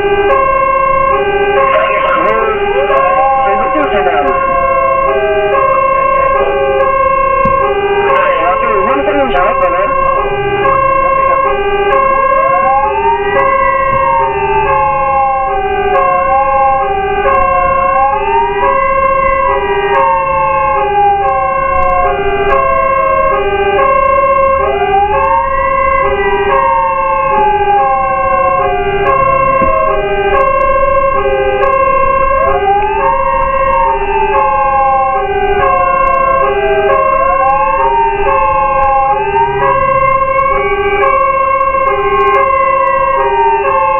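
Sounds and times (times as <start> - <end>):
fire truck siren wail: 0.0 - 43.9
two-tone hi-lo siren: 0.0 - 43.9.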